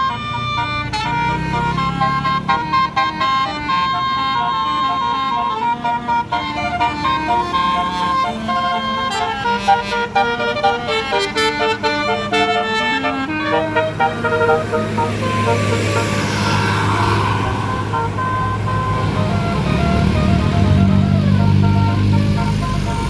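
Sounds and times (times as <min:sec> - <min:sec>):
musical bus air horn: 0:00.0 - 0:23.0.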